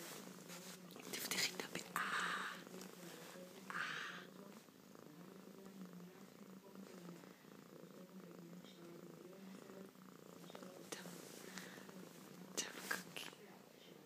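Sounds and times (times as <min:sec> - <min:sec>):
cat hissing softly: 0:00.0 - 0:13.5
cat purring: 0:00.0 - 0:14.0.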